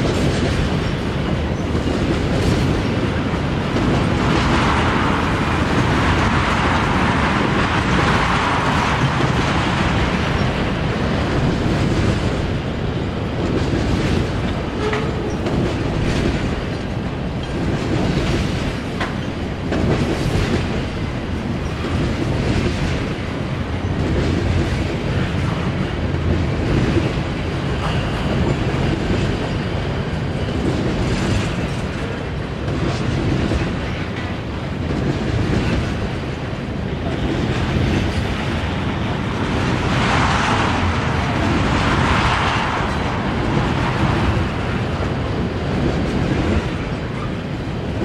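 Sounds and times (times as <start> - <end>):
freight train rumbling past: 0.0 - 48.0
wheels clacking over rail joints: 0.0 - 48.0.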